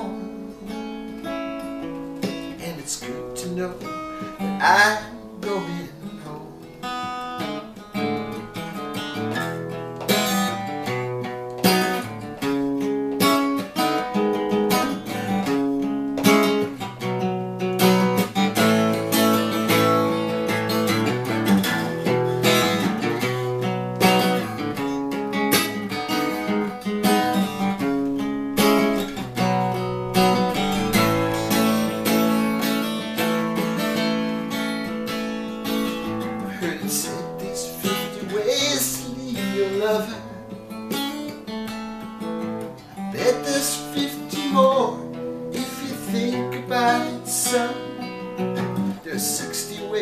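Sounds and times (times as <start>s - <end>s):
acoustic guitar strumming and picking: 0.0s - 50.0s.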